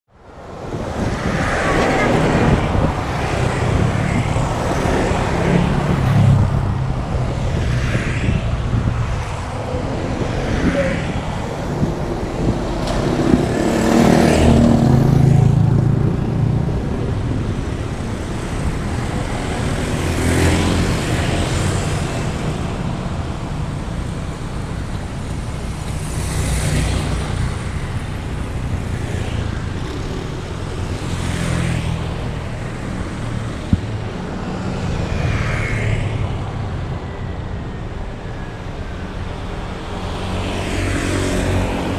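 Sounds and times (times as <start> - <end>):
motorcycles and cars passing: 0.2 - 41.9.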